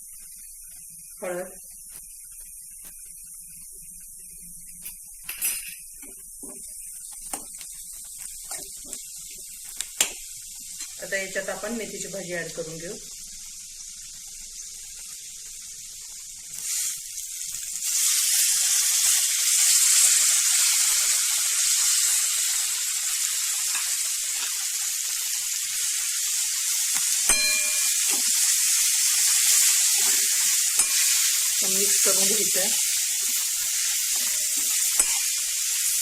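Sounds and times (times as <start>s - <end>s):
leaves sizzling in hot oil: 0.0s - 36.0s.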